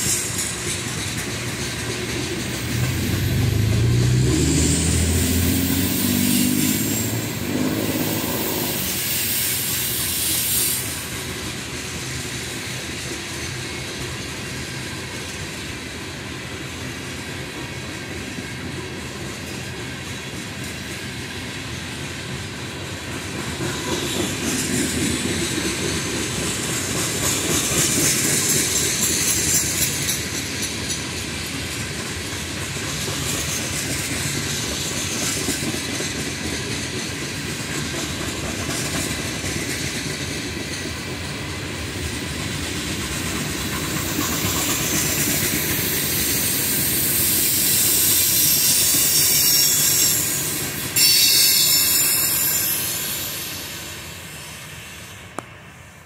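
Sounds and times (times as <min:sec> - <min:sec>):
wheels clacking on rails: 0:00.0 - 0:55.6
freight train rumbling: 0:00.0 - 0:56.0.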